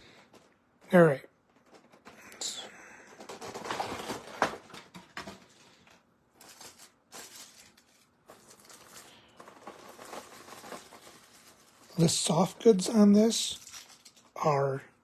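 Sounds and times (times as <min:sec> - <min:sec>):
packaging rustling: 0:01.4 - 0:14.4.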